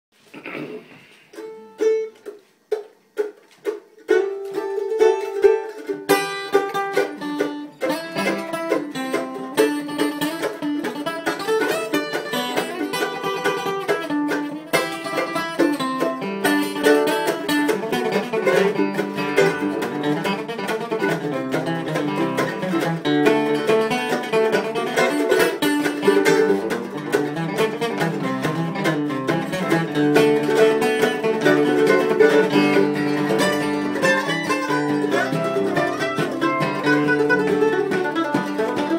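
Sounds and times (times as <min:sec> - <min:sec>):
acoustic guitar and mandolin tune: 0:00.2 - 0:38.9.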